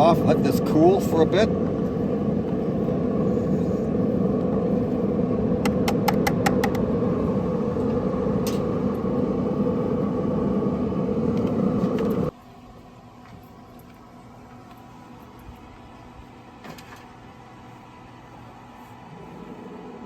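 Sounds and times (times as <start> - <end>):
gas burner roaring: 0.0 - 12.4, 14.2 - 20.0.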